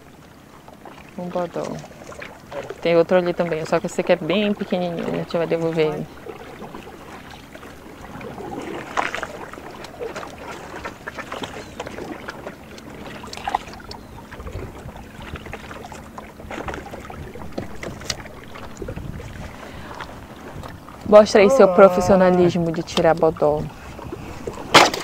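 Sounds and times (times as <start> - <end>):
water splashing in canoe: 0.0 - 25.0.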